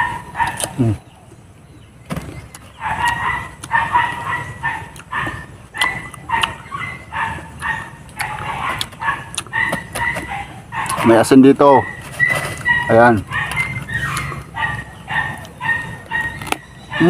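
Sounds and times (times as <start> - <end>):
crunching of fruit being chewed: 0.0 - 1.4, 2.1 - 17.0.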